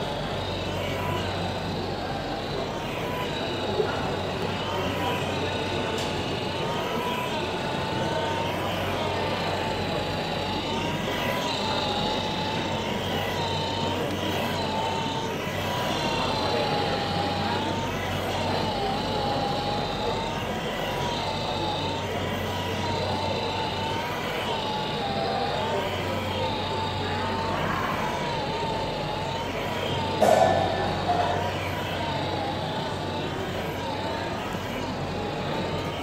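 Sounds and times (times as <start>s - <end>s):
small electric motor whining: 0.0s - 36.0s.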